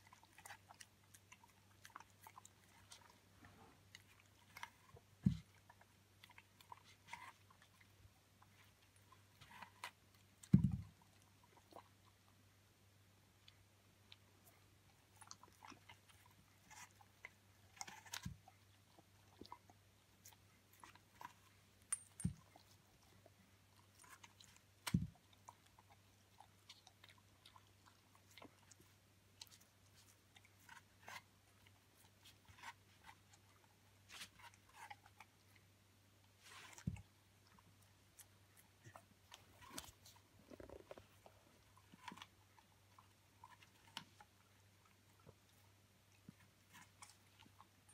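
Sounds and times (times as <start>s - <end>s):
dog crunching an apple: 0.0s - 12.2s, 14.1s - 35.6s, 36.2s - 47.9s.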